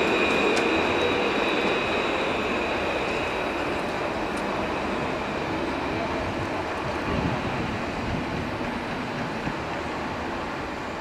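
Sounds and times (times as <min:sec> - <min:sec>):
tram running on track: 0:00.0 - 0:11.0.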